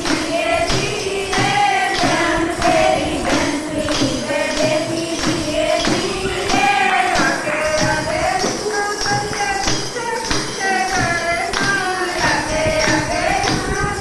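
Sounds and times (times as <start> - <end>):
hand percussion beat: 0.0 - 14.0
person singing devotional melody: 0.0 - 14.0.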